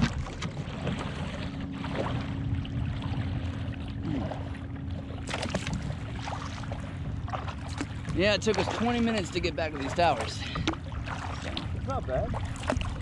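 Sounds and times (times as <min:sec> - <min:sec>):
paddle strokes in water: 0:00.0 - 0:13.0
water splashing along hull: 0:00.0 - 0:13.0.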